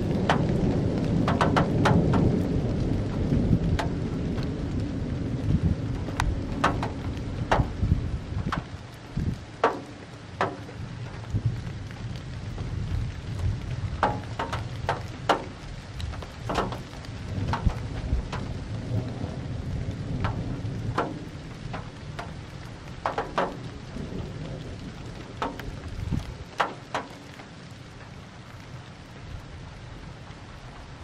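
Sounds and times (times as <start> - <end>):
raindrops ticking on microphone: 0.0 - 31.0
thunder rumbling: 0.0 - 31.0.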